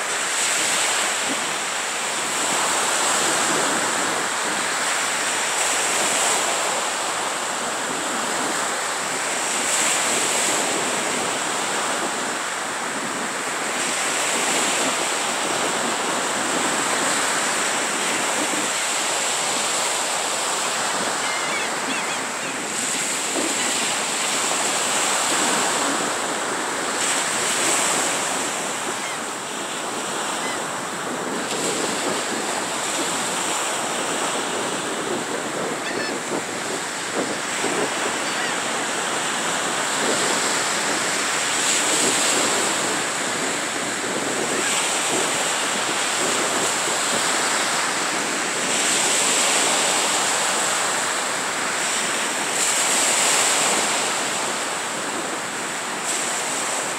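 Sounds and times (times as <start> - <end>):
small surf washing on sand: 0.0 - 56.9.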